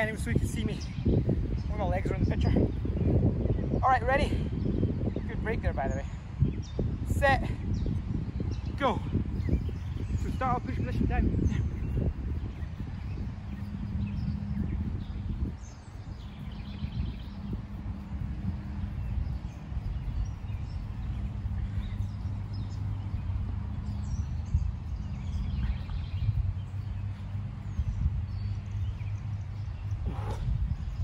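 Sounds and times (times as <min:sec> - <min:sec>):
birds chirping: 0:00.0 - 0:31.0
low rumble: 0:00.0 - 0:31.0.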